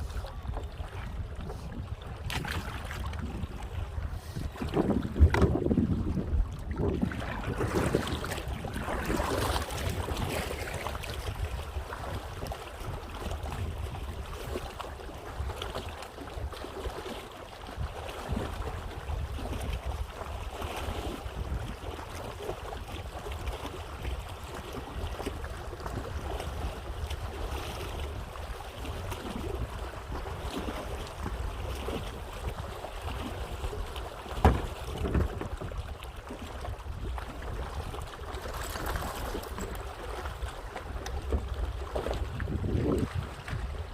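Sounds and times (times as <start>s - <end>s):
wind buffeting microphone: 0.0s - 15.6s, 20.9s - 23.2s, 24.0s - 43.9s
water around a kayak: 0.0s - 43.9s.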